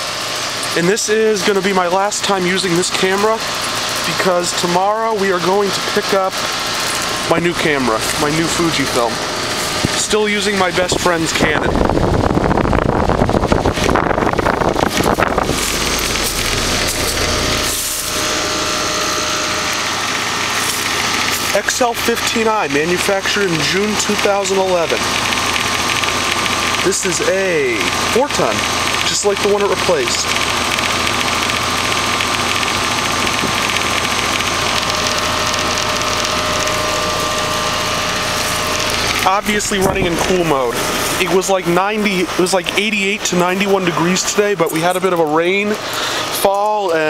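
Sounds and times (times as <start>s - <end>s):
heat pump hum and fan: 0.0s - 47.0s
rapid rough rattle: 0.0s - 47.0s.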